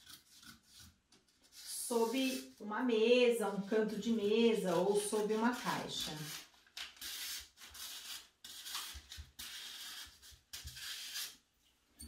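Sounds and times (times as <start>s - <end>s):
paper rustling and rubbing: 0.0s - 2.7s, 3.5s - 11.3s.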